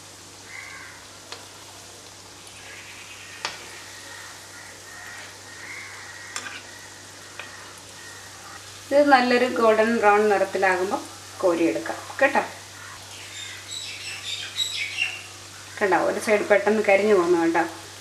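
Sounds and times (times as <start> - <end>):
dough deep-frying in oil: 0.0 - 18.0.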